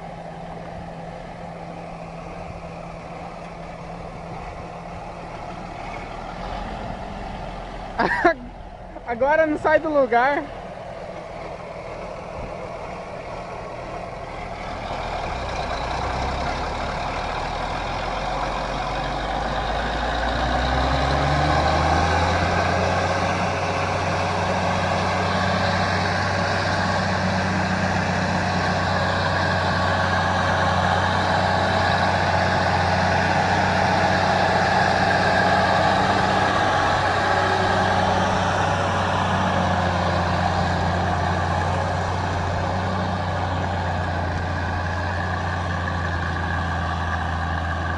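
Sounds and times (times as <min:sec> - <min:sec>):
heavy vehicle engine revving: 0:00.0 - 0:47.9.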